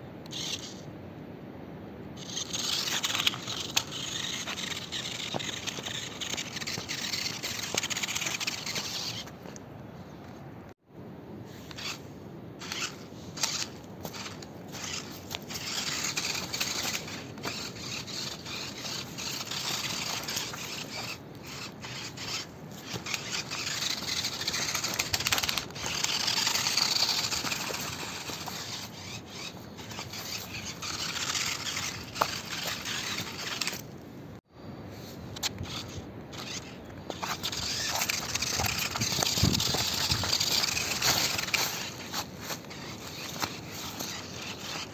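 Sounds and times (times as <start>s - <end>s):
rc truck tyres crunching on dirt: 2.2s - 10.2s, 11.5s - 12.0s, 12.6s - 34.0s, 34.9s - 44.9s.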